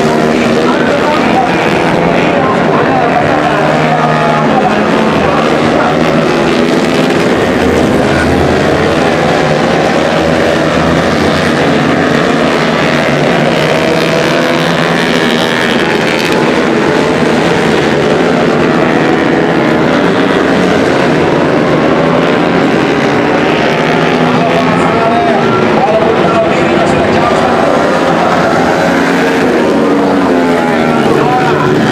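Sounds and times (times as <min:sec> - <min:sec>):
motorbikes racing at high revs: 0:00.0 - 0:31.9.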